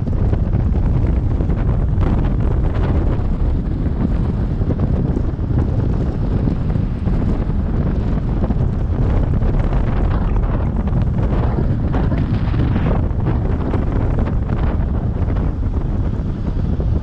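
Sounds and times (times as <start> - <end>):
deep road rumble: 0.0 - 17.0
wind buffeting microphone: 0.0 - 17.0.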